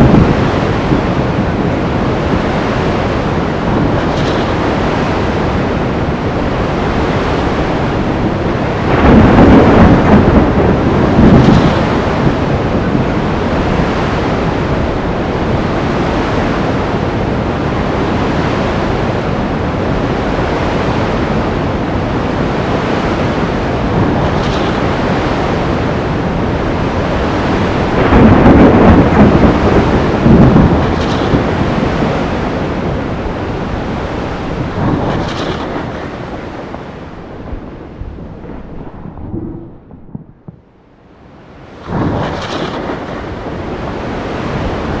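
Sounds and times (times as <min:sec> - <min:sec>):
surf: 0:00.0 - 0:39.9, 0:41.2 - 0:45.0
thunder rumbling: 0:00.0 - 0:45.0
wind: 0:00.0 - 0:45.0.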